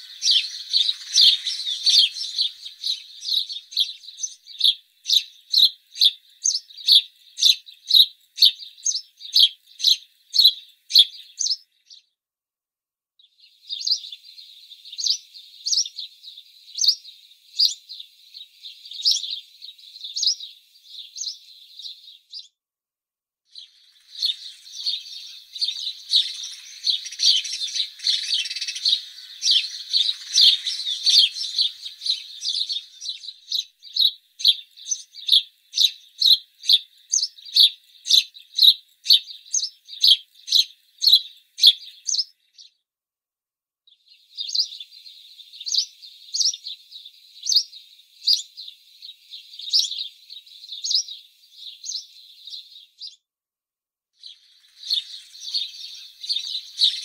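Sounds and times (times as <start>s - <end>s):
sparrows chirping: 0.0s - 12.2s, 13.2s - 22.6s, 23.5s - 42.9s, 43.9s - 53.3s, 54.2s - 57.0s.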